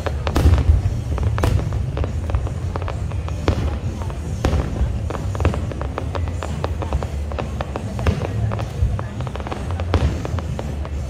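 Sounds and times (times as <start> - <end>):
firework bangs and crackles: 0.0 - 11.0
low rumble of firework bursts: 0.0 - 11.0.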